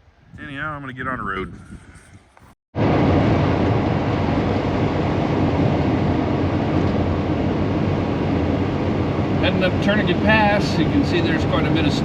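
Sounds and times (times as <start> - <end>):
van engine and road noise: 2.3 - 12.0.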